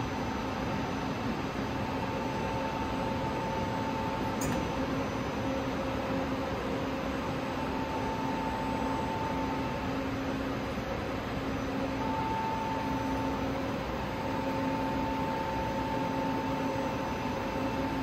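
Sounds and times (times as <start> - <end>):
machine tool hum with whine: 0.0 - 18.0.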